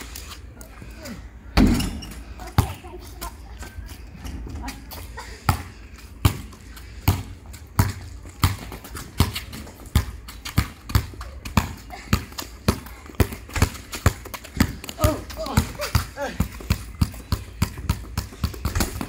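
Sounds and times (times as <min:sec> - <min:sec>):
basketball bouncing on concrete: 0:01.6 - 0:03.3, 0:05.5 - 0:19.0.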